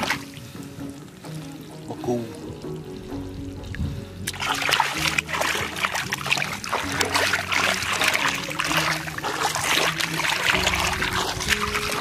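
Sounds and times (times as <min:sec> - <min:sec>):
background music with low notes: 0:00.0 - 0:12.0
muddy water splashing: 0:00.0 - 0:12.0.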